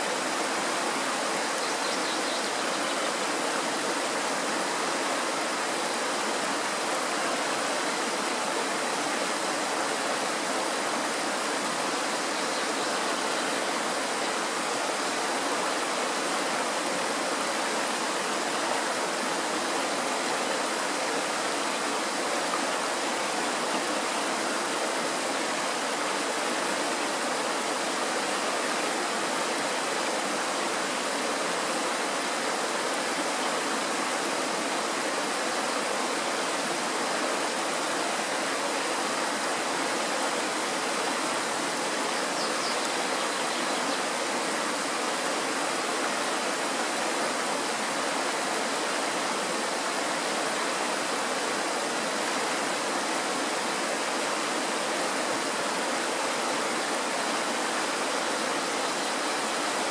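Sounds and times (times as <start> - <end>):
mountain stream rushing over rocks: 0.0 - 59.9.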